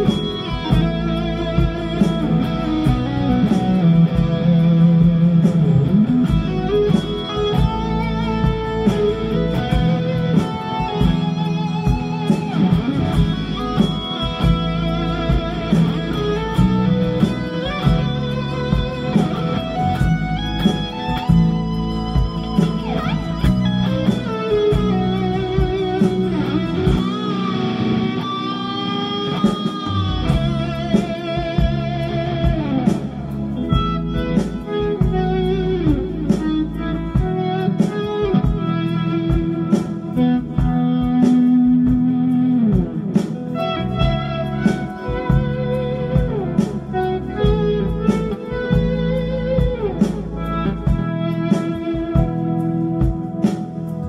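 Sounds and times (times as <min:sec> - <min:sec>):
drums and bass backing track: 0:00.0 - 0:54.0
electric guitar lead: 0:00.0 - 0:54.0.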